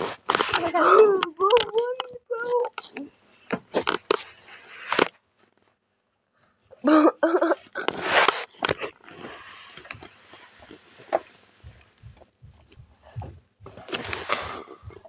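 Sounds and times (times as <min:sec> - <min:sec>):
rustling handling noise: 0:00.0 - 0:06.6, 0:07.6 - 0:15.0.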